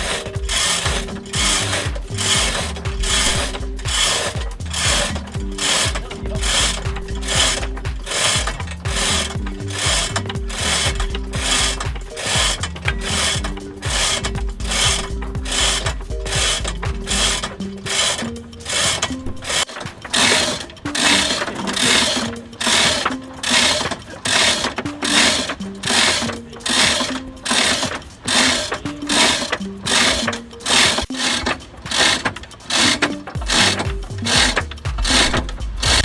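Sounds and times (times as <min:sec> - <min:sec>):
rhythmic ratchet-like rasping: 0:00.0 - 0:36.0.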